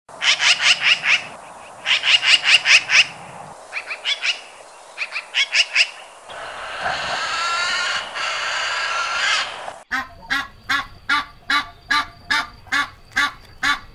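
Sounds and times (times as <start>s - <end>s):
bird calls: 0.2s - 13.9s.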